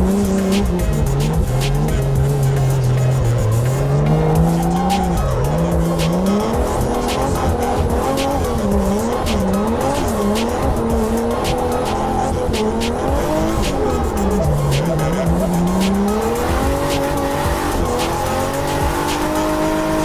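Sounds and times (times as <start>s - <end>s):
car engine revving: 0.0s - 20.0s
tyres squealing and skidding: 0.0s - 20.0s.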